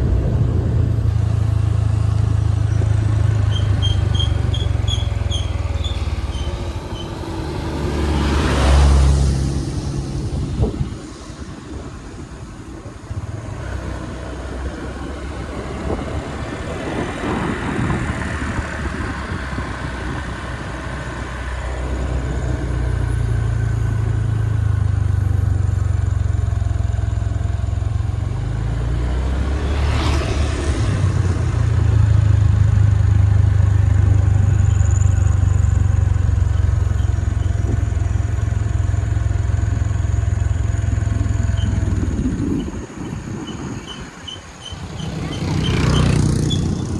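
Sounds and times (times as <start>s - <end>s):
vehicle engine droning: 0.0s - 46.9s.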